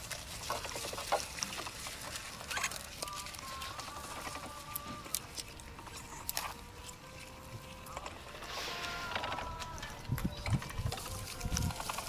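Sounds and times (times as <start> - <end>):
animals chewing leaves: 0.0 - 12.0
leaves rustling: 0.0 - 12.0.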